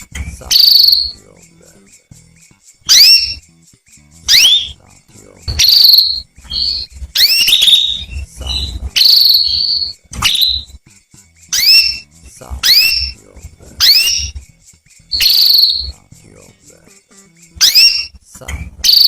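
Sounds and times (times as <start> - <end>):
canary chirping: 0.0 - 19.0.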